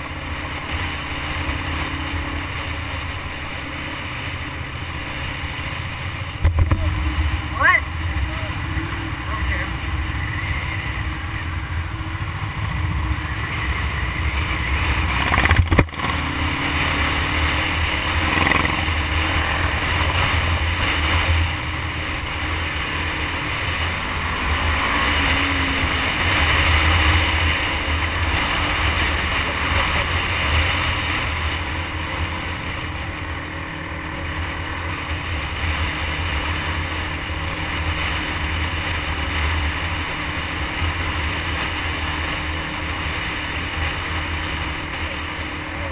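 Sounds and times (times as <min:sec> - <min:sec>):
motorcycle engine drone: 0:00.0 - 0:45.9
wind rush on microphone: 0:00.0 - 0:45.9.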